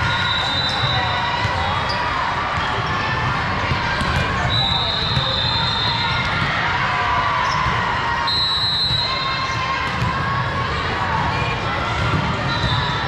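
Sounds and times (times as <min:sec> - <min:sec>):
volleyballs bouncing and struck: 0:00.0 - 0:06.8, 0:08.9 - 0:13.0
distant voices and shouts echoing: 0:00.0 - 0:13.0.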